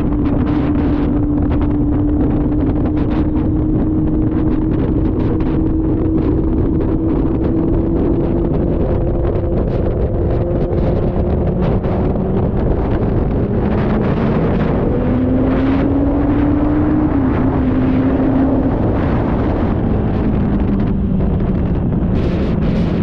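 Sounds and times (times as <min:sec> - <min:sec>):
steady hum rising in pitch: 0:00.0 - 0:23.0
wind buffeting microphone: 0:00.0 - 0:23.0.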